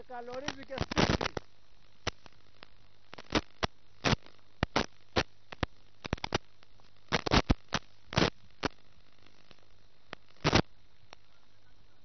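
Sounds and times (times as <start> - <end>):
faint steady hum: 0.0 - 12.0
static crackling pops: 0.0 - 12.0.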